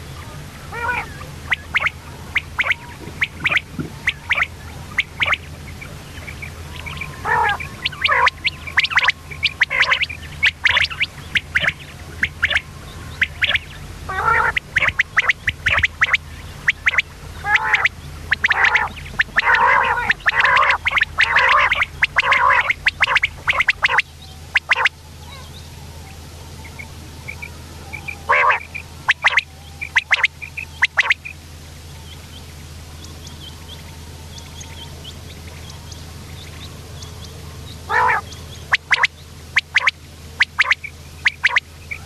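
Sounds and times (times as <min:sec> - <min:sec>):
quail calling: 0:00.0 - 0:25.8, 0:26.6 - 0:31.4, 0:37.8 - 0:42.0
steady low hum: 0:00.0 - 0:42.0.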